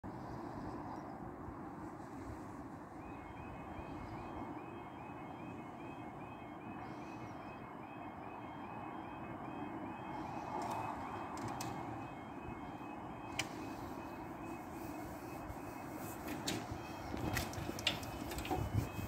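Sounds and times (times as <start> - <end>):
level crossing alarm yodel: 3.0 - 19.0.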